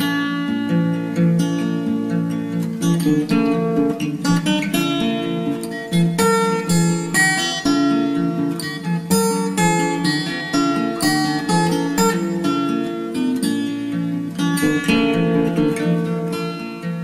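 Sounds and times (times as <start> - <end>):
acoustic guitar tune: 0.0 - 17.0.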